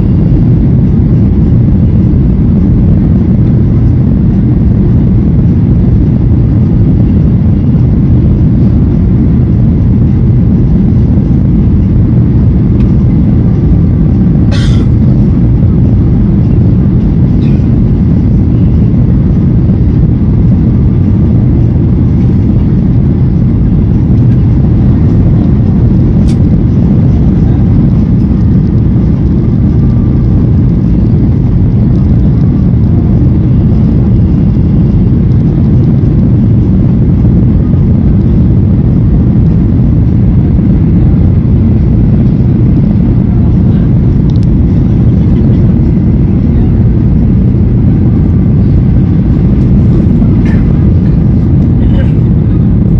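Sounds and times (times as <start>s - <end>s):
jet engine rumble in cabin: 0.0s - 52.9s
rushing air: 0.0s - 52.9s.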